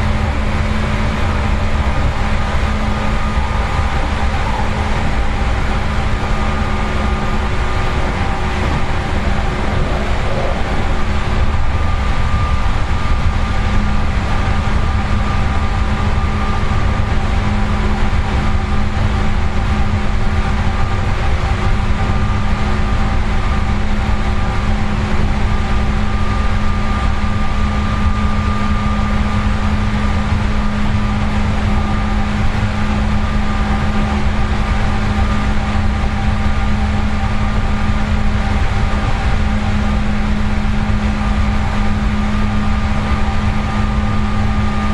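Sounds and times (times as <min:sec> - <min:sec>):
electric train rumble: 0:00.0 - 0:44.9
steady hum of held tones: 0:00.0 - 0:44.9.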